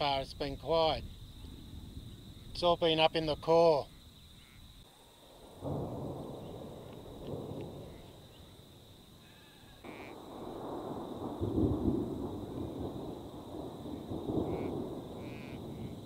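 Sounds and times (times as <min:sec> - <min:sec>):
distant thunder rumbling: 0:00.0 - 0:03.3, 0:05.3 - 0:16.0.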